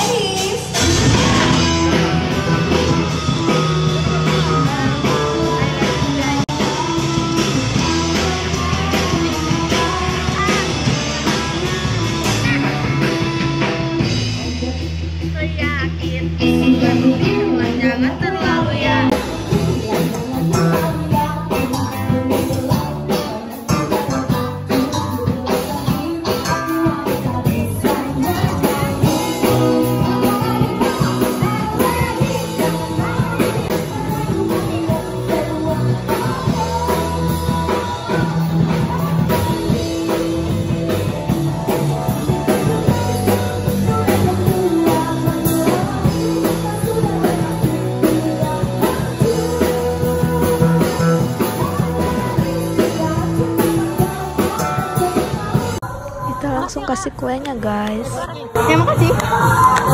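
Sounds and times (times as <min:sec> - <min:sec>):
person singing: 0:00.0 - 0:56.7
live rock band playing: 0:00.0 - 0:59.9.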